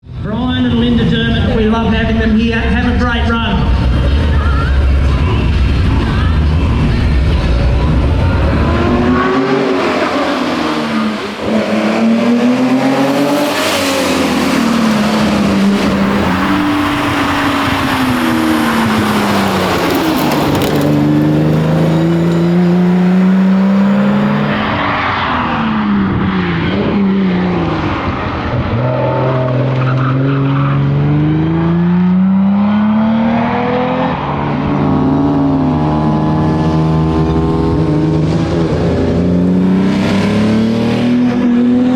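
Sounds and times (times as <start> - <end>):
car engine revving through gears: 6.6 - 41.9.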